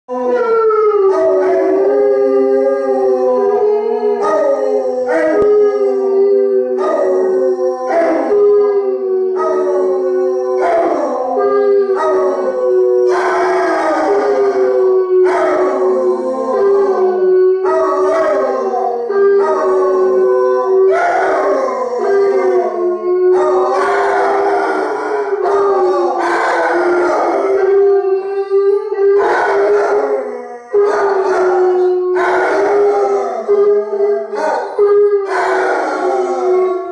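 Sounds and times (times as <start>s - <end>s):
dogs howling together: 0.1s - 36.9s.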